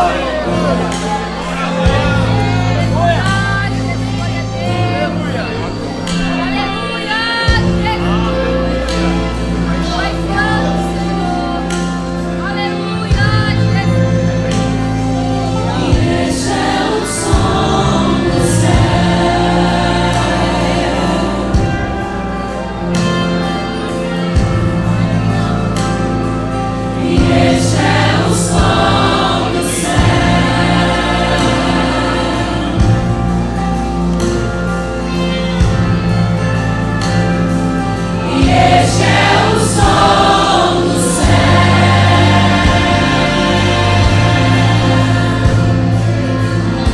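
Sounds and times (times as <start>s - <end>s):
choir singing gospel song: 0.0s - 46.9s
instrumental accompaniment with beat: 0.0s - 46.9s.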